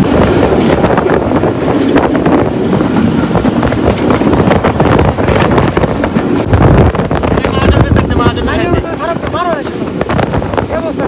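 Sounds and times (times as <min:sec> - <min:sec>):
train running noise: 0:00.0 - 0:11.0
wind buffeting microphone: 0:00.0 - 0:11.0.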